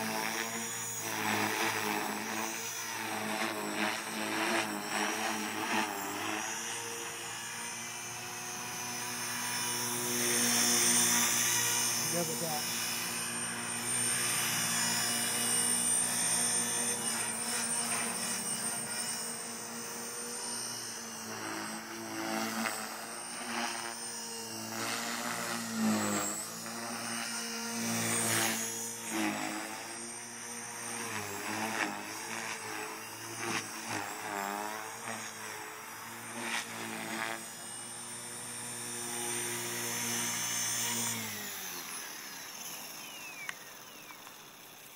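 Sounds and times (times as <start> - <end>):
rc helicopter rotor whining: 0.0 - 44.9.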